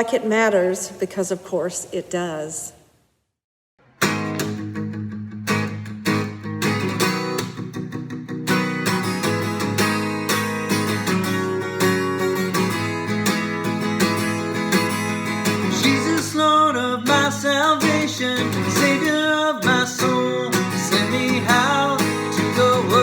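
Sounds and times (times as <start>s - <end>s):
acoustic guitar strumming chords: 3.8s - 23.0s.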